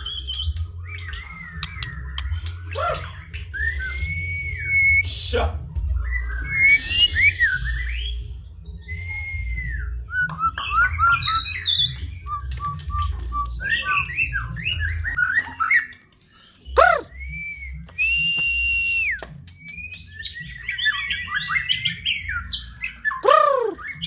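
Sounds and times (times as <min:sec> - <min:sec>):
songbird whistling song: 0:00.0 - 0:24.0.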